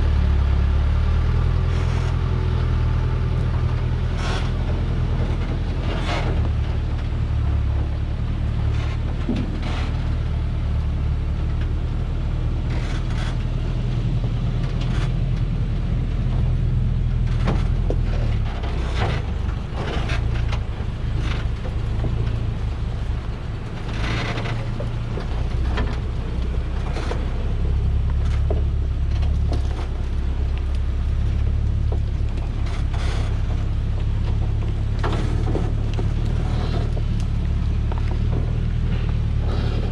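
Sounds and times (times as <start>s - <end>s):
truck diesel engine droning: 0.0s - 39.9s
truck load knocking and rattling: 0.0s - 39.9s.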